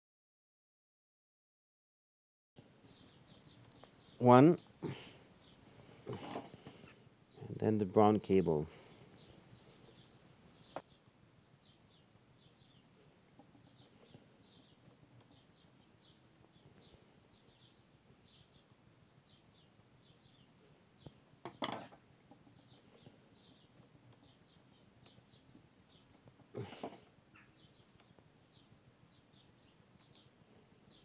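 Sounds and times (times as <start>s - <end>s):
faint birds chirping: 2.6s - 31.0s.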